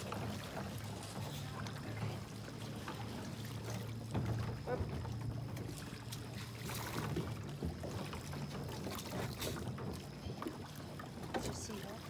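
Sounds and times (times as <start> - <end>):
kayak hull and paddle knocks: 0.0 - 12.0.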